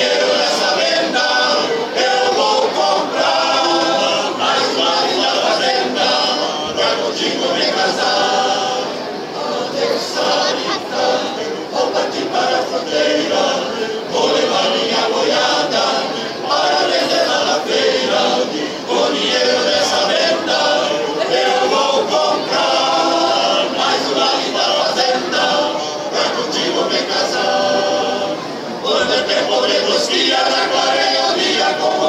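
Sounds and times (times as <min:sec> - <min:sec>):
men's choir singing a cappella: 0:00.0 - 0:32.0.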